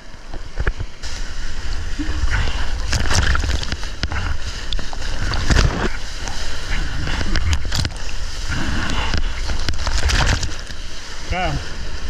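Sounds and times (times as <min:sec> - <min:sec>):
low buffeting on microphone: 0:00.0 - 0:12.0
surf splashing: 0:00.0 - 0:12.0.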